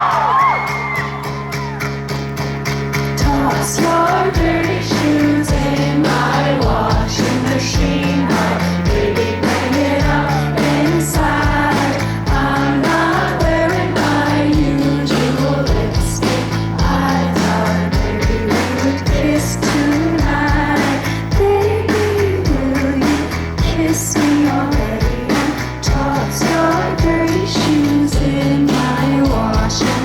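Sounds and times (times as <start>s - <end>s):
live pop-rock band: 0.0s - 30.0s
woman singing lead vocal: 3.2s - 30.0s.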